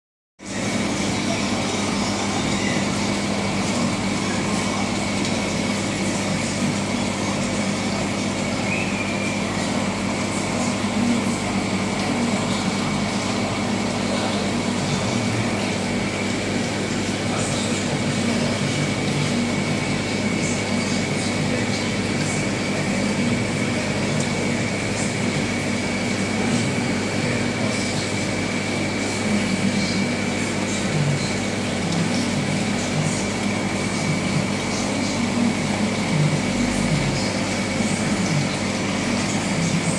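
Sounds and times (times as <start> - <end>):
aquarium pump hum: 0.4 - 39.9.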